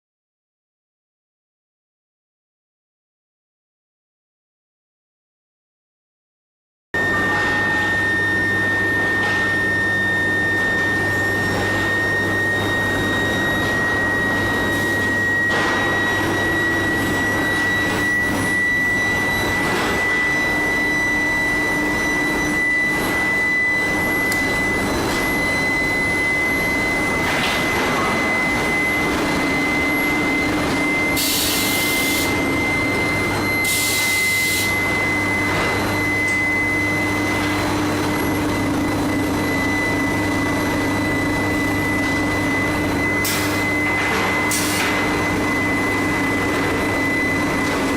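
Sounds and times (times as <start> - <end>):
furnace high whine: 7.0 - 47.9
machine hum: 7.0 - 47.9.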